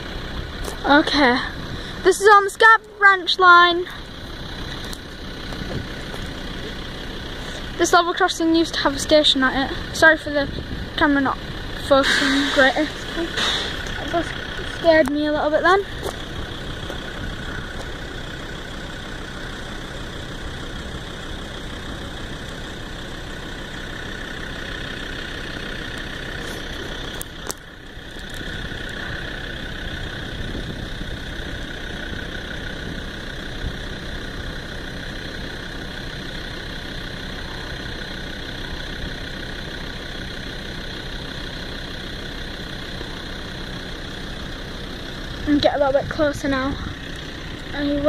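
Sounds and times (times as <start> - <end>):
road vehicles idling: 0.0 - 48.0.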